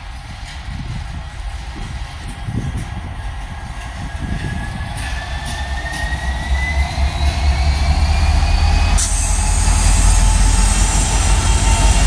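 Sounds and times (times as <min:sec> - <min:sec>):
train engine rumble: 0:00.0 - 0:12.0.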